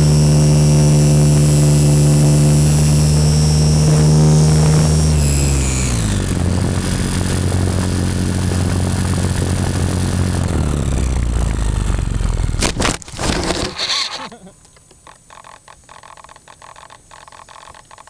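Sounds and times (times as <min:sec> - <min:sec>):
model plane motor droning: 0:00.0 - 0:18.0.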